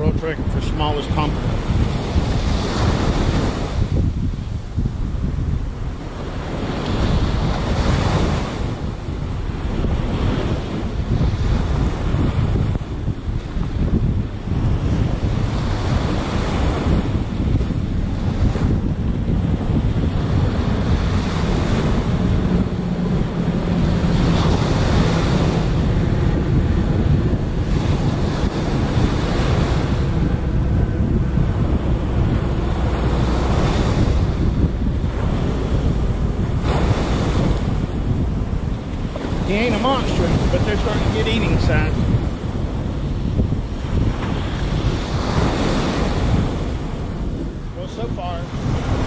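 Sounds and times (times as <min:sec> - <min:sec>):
waves washing up beach: 0:00.0 - 0:49.0
wind rumbling on microphone: 0:00.0 - 0:49.0.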